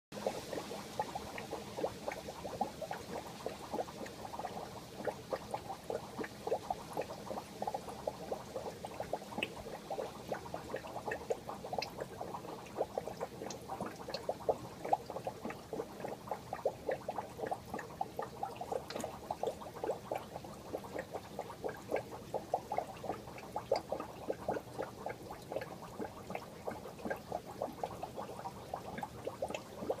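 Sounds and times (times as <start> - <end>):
aquarium water bubbling: 0.1 - 30.0.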